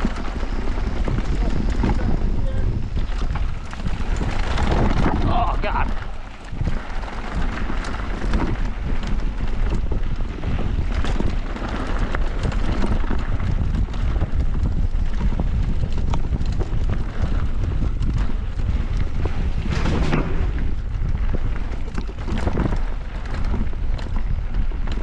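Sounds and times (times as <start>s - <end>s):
bike clicks and knocks: 0.0s - 25.0s
bike tyre noise: 0.0s - 25.0s
wind on microphone: 0.0s - 25.0s.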